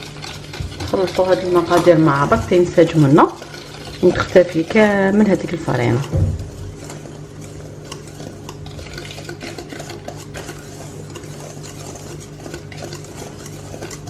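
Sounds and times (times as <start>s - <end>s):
steady low hum: 0.0s - 14.0s
utensil scraping a bowl: 0.0s - 14.0s.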